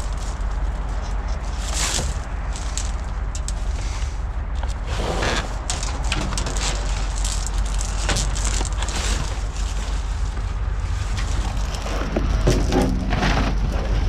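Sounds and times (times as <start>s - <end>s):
scrap metal clattering and scraping: 0.0s - 14.0s
steady low rumble: 0.0s - 14.0s.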